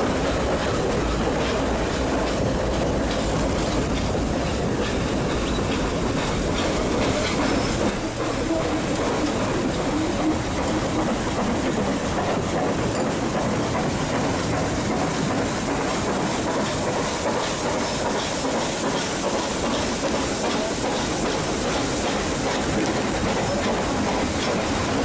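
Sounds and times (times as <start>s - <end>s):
train rumbling along track: 0.0s - 25.0s
wheels clicking on rails: 0.0s - 25.0s.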